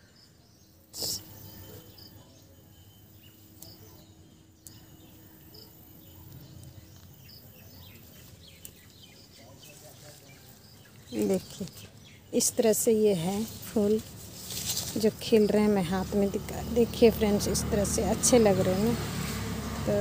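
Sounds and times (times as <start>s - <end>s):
outdoor garden background: 0.0s - 20.0s.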